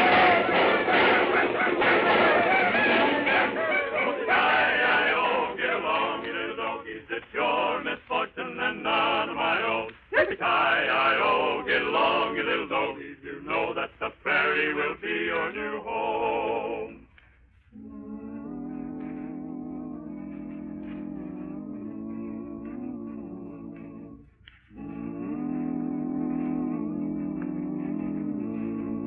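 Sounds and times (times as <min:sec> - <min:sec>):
music: 0:00.0 - 0:29.0
voices singing with vibrato: 0:00.0 - 0:29.0.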